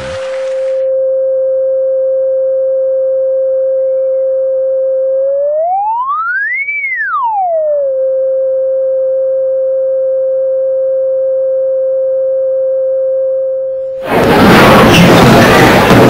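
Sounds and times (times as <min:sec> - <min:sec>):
sine-wave test tone: 0:00.2 - 0:14.0.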